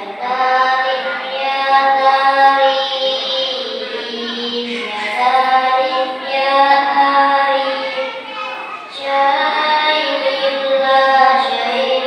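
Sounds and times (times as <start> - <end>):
boy singing solo: 0.0 - 12.0.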